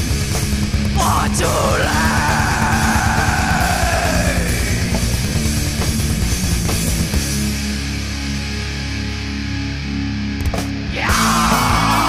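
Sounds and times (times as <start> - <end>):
metal band playing: 0.0 - 12.0.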